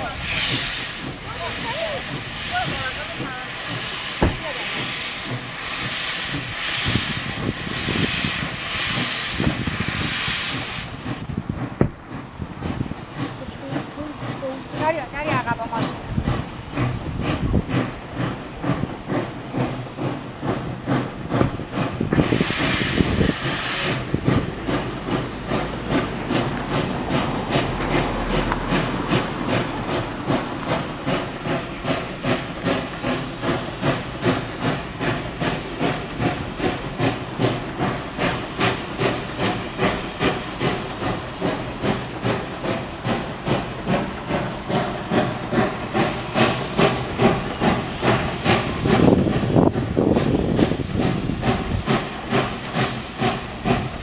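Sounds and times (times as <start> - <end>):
steam hiss: 0.0 - 54.0
steam locomotive exhaust chuffs: 0.0 - 54.0.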